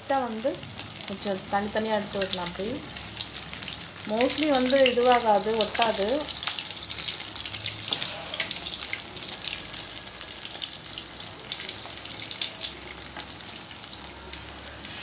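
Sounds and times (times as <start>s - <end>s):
potato deep-frying in oil: 0.0s - 15.0s.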